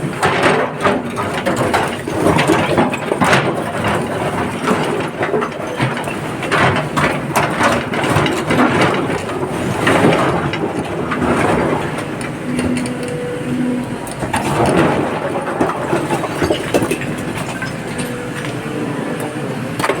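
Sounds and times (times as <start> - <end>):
rock and gravel clatter: 0.0 - 13.2, 13.9 - 18.8
heavy machinery running: 0.0 - 20.0.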